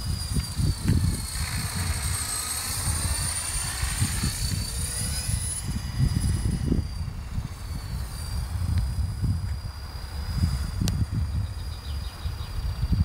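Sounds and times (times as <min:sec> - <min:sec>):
rc helicopter motor whine: 0:00.0 - 0:13.0
wind rumble on microphone: 0:00.0 - 0:13.0.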